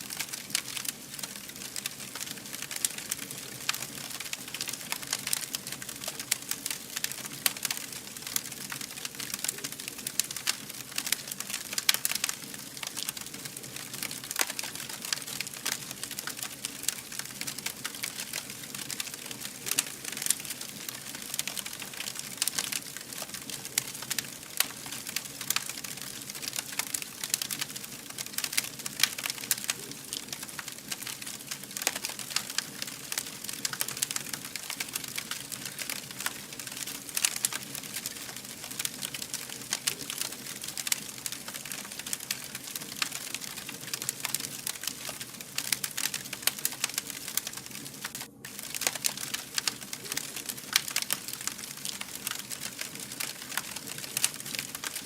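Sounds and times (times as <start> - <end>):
wood fire crackling and snapping: 0.0 - 55.0.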